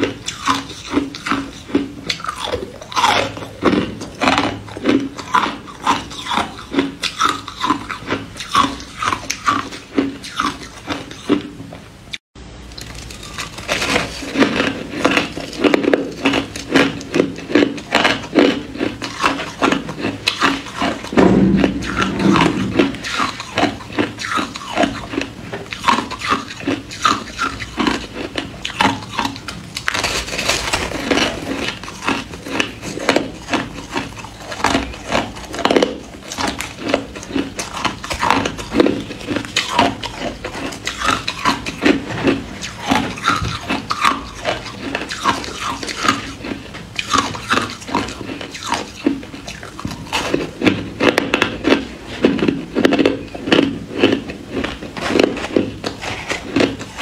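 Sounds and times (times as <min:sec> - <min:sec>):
ice being crunched and chewed: 0:00.0 - 0:11.5, 0:12.7 - 0:57.0.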